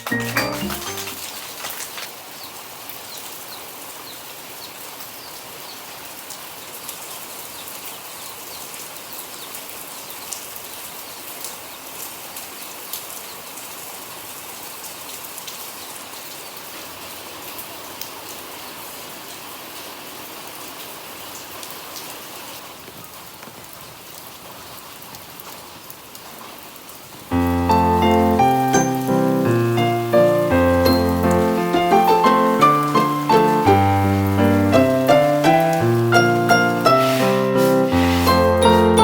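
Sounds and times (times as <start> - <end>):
raindrops pattering on surfaces: 0.0 - 39.0
steady rain hiss: 0.0 - 39.0.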